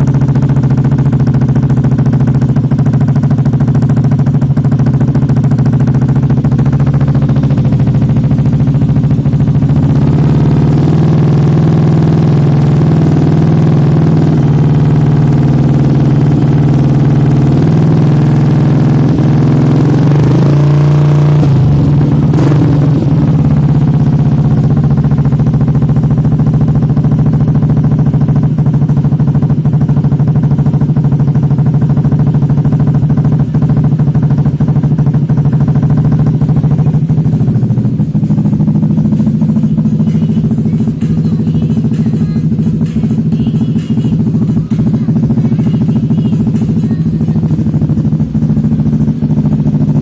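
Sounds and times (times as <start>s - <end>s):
scooter engine revving and idling: 0.0s - 50.0s.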